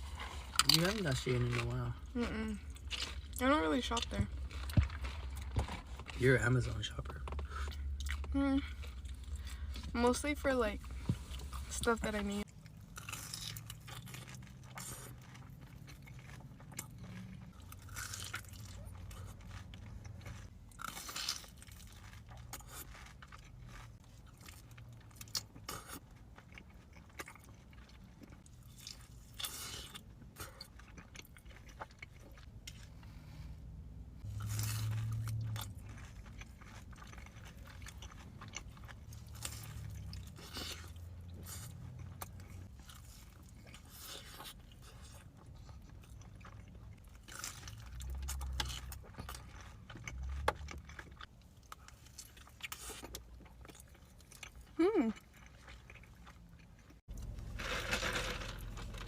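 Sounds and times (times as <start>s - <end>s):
crunchy chewing of fried food: 0.0s - 10.0s, 10.8s - 59.0s.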